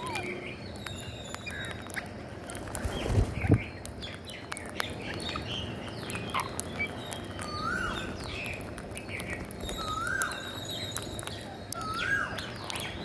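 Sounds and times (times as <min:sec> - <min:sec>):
beaks clicking on grain: 0:00.0 - 0:13.0
parakeets chirping and squawking: 0:00.0 - 0:13.0.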